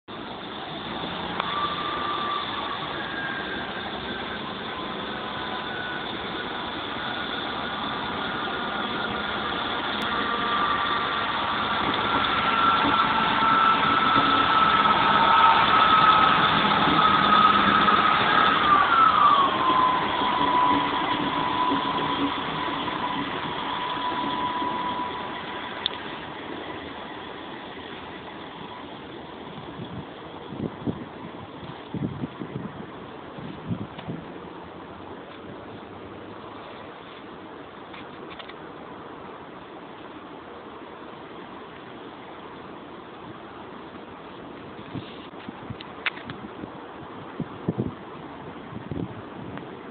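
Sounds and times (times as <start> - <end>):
diesel train passing with whine: 0.0 - 49.9.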